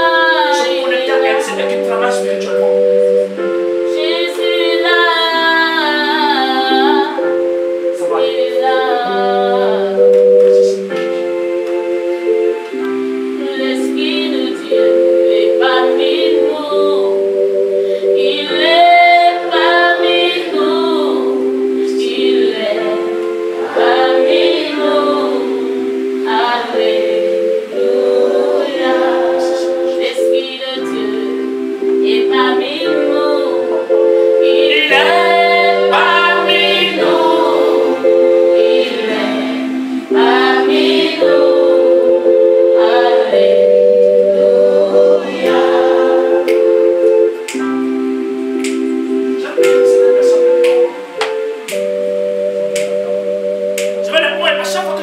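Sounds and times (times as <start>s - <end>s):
keyboard chords: 0.0s - 55.0s
voices singing together: 0.0s - 55.0s.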